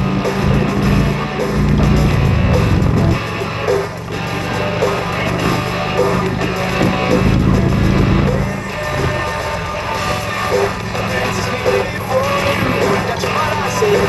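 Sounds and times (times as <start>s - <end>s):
rock guitar music: 0.0s - 14.0s.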